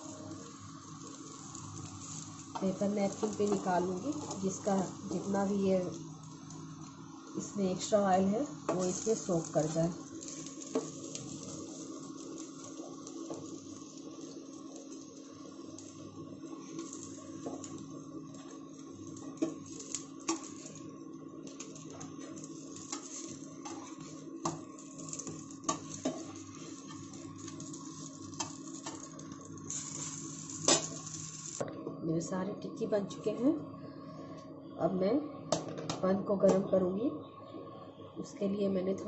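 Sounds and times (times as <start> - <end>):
oil sizzling: 0.0 - 31.6
cooktop hum: 0.0 - 39.0.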